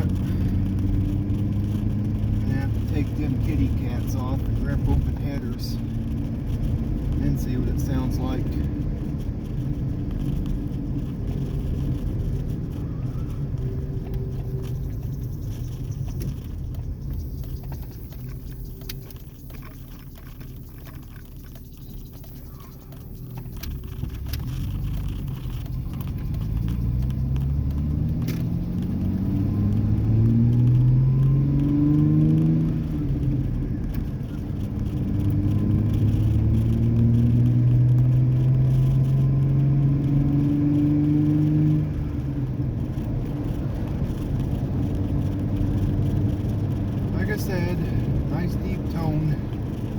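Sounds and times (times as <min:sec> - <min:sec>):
truck exhaust rumble accelerating: 0:00.0 - 0:49.9.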